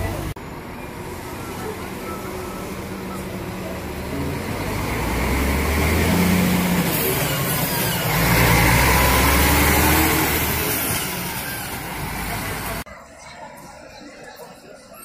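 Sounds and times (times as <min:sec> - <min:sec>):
coach diesel engine driving past: 0:00.0 - 0:12.9.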